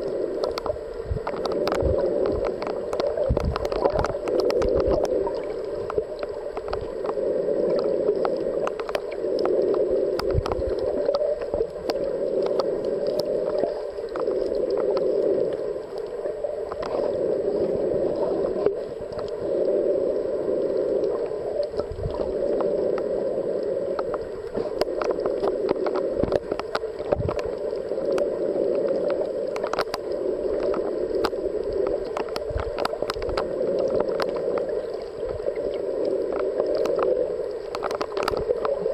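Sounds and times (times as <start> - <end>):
small clicks: 0.0 - 17.1, 21.0 - 38.9
muffled underwater rushing: 0.0 - 38.9.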